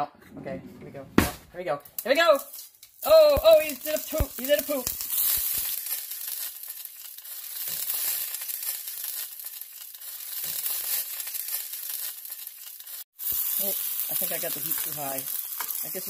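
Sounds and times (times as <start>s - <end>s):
sizzling in hot oil: 1.9s - 16.0s.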